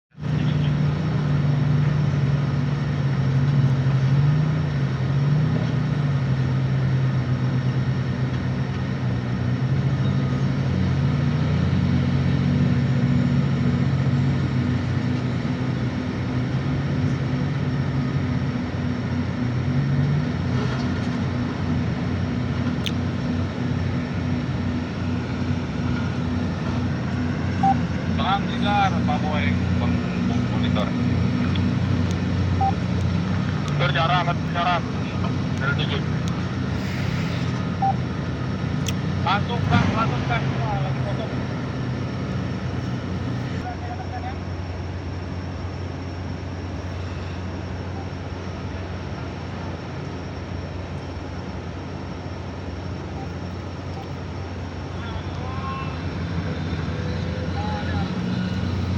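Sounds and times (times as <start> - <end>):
heavy diesel engine droning: 0.1 - 58.9.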